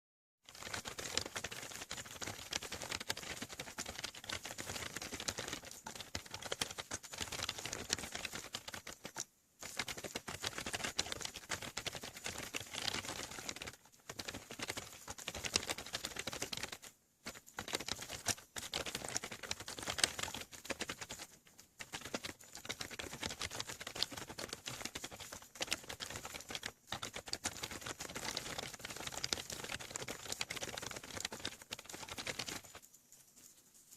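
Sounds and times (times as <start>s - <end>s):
fast typing on covered keyboard: 0.5s - 32.9s.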